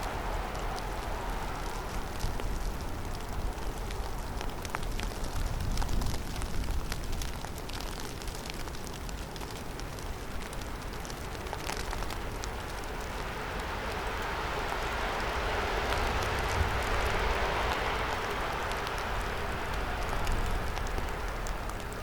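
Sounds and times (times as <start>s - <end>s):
wind rushing with low rumble: 0.0s - 8.8s, 9.8s - 22.0s
snow ticking: 0.0s - 22.0s.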